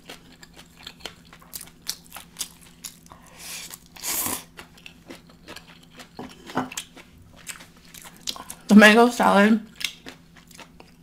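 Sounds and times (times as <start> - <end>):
crunching and chewing food: 0.0 - 8.8, 9.6 - 11.0.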